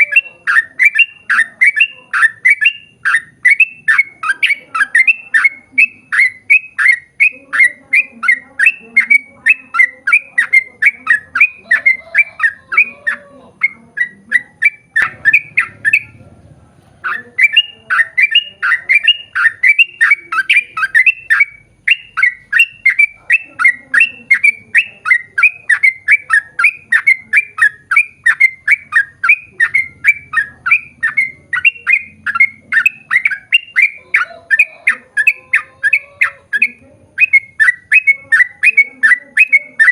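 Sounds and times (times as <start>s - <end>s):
bird calling harsh notes: 0.0s - 16.3s, 17.0s - 39.9s.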